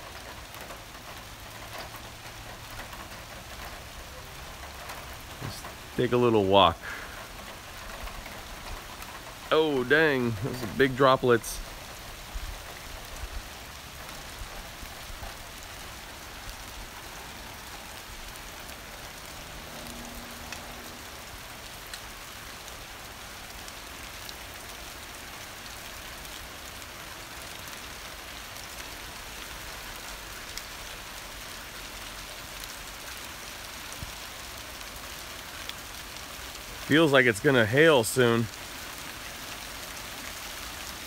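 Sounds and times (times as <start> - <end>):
heavy rain pouring: 0.0 - 41.0
large raindrops tapping: 0.0 - 41.0.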